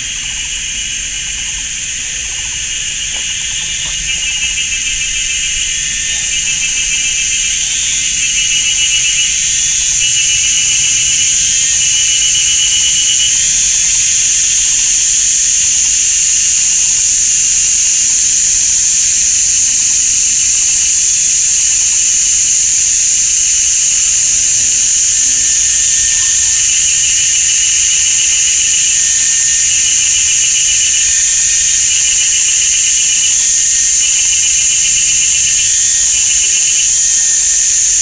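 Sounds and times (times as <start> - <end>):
cicadas buzzing in chorus: 0.0 - 38.0
lower pulsing insect call: 0.0 - 38.0.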